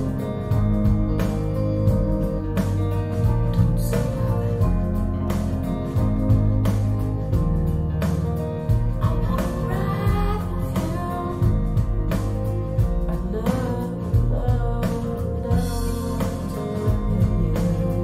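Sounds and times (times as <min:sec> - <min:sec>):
rock song through speakers: 0:00.0 - 0:18.0.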